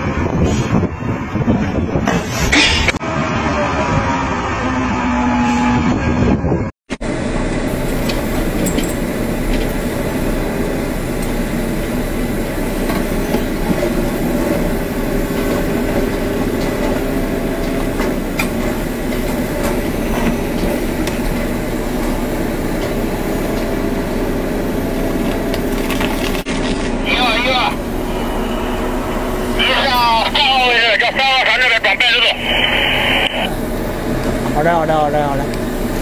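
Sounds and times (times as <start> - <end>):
excavator rumbling and rattling: 0.0 - 36.0.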